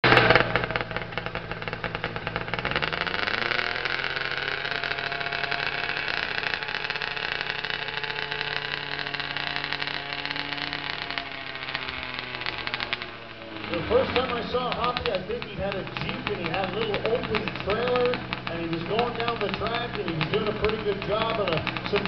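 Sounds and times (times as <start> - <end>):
tractor engine revving under load: 0.0 - 22.0.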